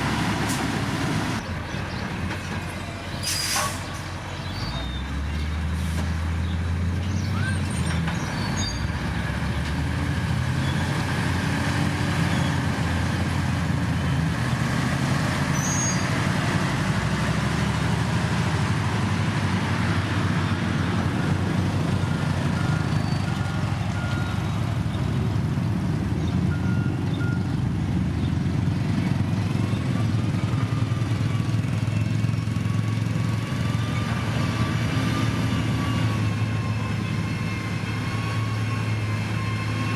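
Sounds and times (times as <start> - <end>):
diesel machinery rumble: 0.0 - 39.9.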